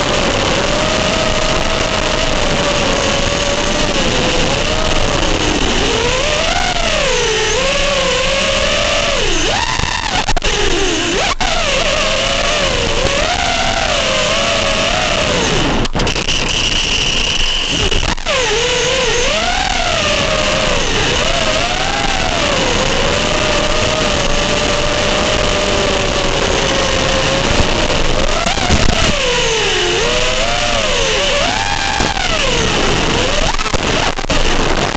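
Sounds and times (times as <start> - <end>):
drone propellers whining: 0.0 - 34.9.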